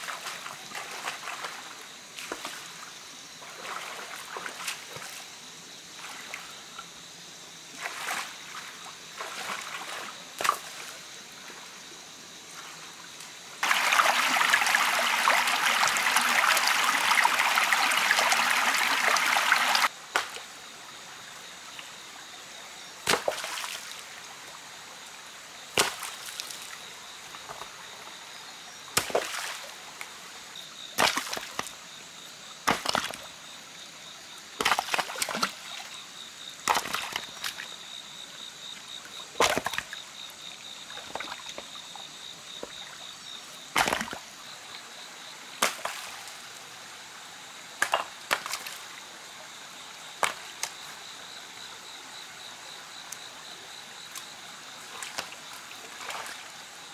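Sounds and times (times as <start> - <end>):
stream water over rocks: 0.0 - 56.9.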